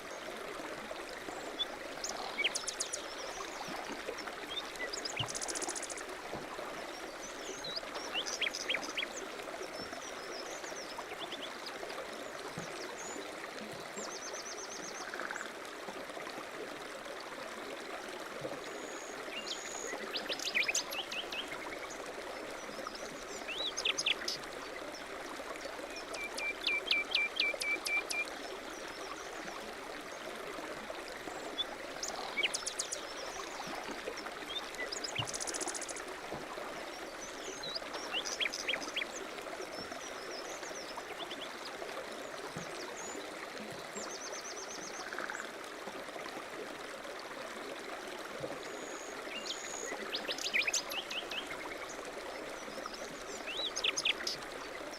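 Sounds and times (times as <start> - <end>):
stream running: 0.0 - 54.9.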